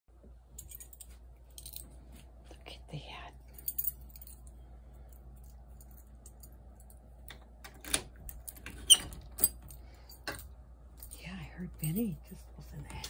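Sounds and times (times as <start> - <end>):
faint low hum: 0.1 - 13.0.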